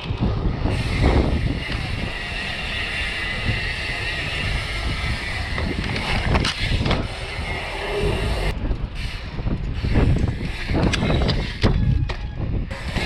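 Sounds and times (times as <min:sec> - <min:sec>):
bike knocking and rattling: 0:00.0 - 0:13.0
wind rushing over microphone: 0:00.0 - 0:13.0.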